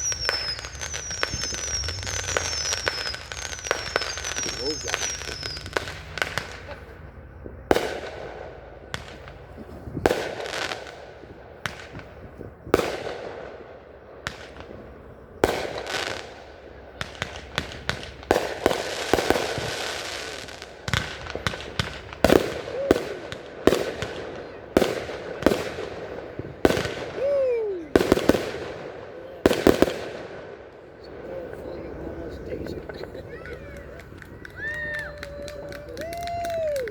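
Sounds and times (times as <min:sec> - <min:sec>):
fireworks bangs echoing: 0:00.0 - 0:36.9
fireworks hissing and crackling: 0:00.0 - 0:36.9.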